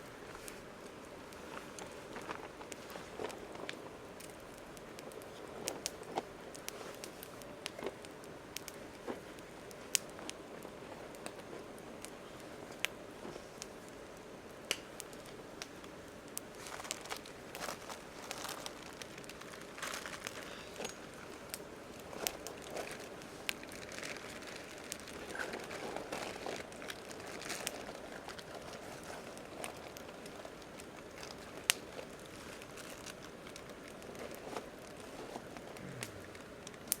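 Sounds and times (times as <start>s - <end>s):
campfire crackling: 0.0s - 37.0s
fire popping and snapping: 0.0s - 37.0s.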